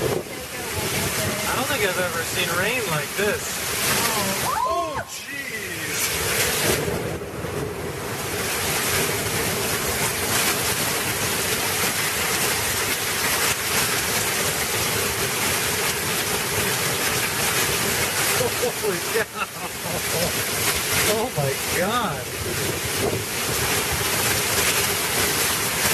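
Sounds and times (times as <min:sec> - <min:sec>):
heavy rain pouring: 0:00.0 - 0:25.9.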